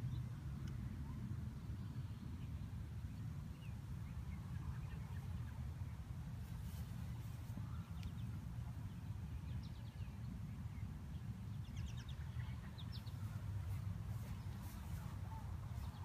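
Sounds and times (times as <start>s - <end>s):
birds chirping: 0.0s - 16.0s
steady low rumble: 0.0s - 16.0s.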